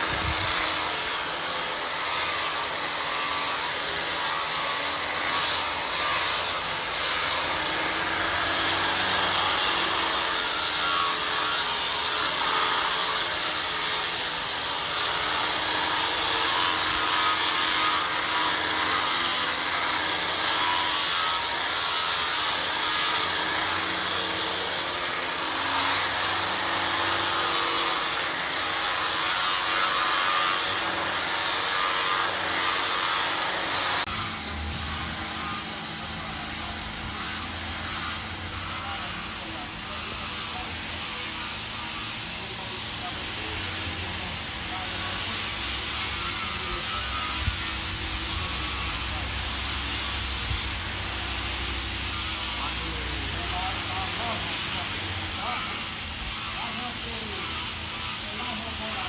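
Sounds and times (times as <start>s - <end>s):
power sander grinding stone: 0.0s - 59.0s.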